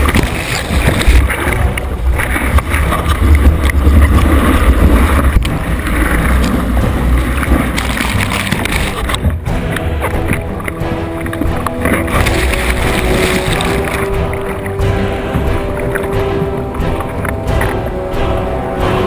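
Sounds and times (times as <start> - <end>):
seawater rushing and splashing: 0.0 - 19.0.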